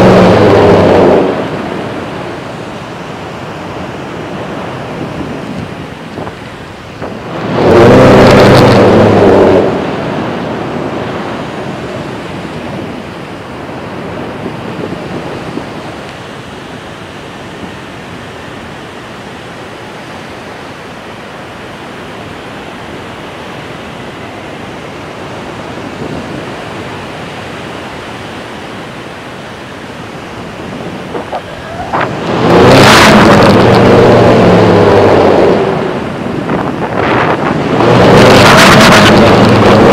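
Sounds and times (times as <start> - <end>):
wind rushing on microphone: 0.0 - 18.6, 24.7 - 39.9
low buzzing wind buffeting: 0.0 - 39.9.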